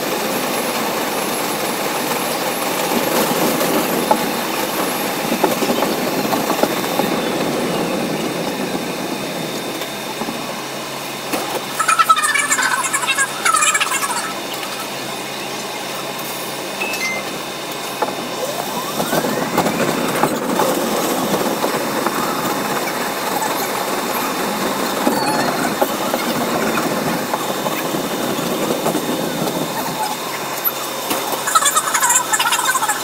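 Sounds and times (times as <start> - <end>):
train wheels on rails: 0.0 - 11.9, 17.3 - 32.9
train motor whine rising: 0.8 - 33.0.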